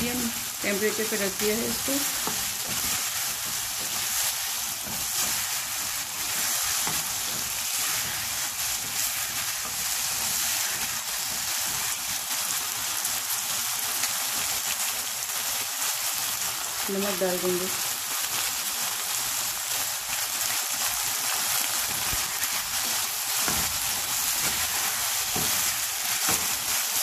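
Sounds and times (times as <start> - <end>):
spatula stirring: 0.0 - 16.7, 17.7 - 27.0
food sizzling in a wok: 0.0 - 27.0.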